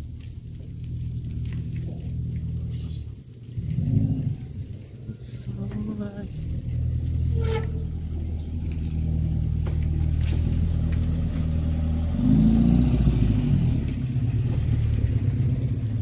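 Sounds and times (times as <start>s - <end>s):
engine running and revving: 0.0s - 16.0s.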